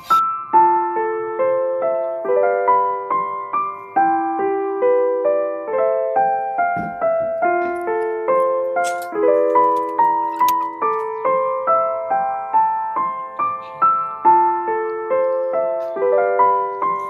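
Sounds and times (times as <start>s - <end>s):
gentle electric piano music: 0.0s - 17.0s.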